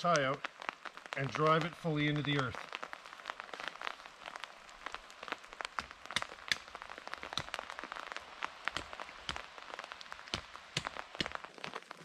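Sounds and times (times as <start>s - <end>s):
raindrops ticking: 0.0s - 12.0s
soft rain hiss: 0.0s - 12.0s.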